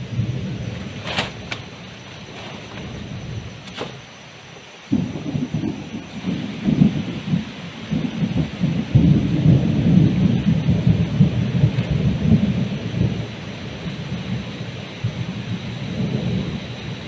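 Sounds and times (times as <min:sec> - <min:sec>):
heavy rain: 0:00.0 - 0:17.0
thunder rumbling: 0:00.0 - 0:17.0.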